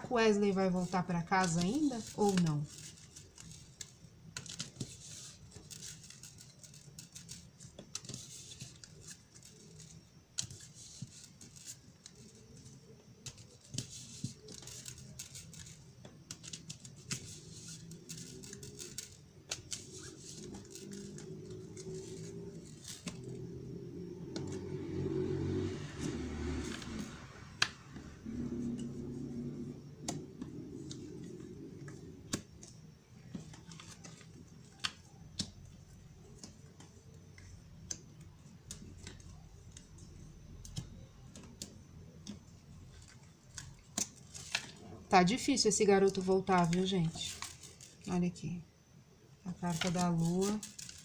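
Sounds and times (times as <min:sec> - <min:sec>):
cards being shuffled: 0:00.4 - 0:23.6, 0:24.2 - 0:44.8, 0:45.9 - 0:48.1, 0:49.5 - 0:51.0.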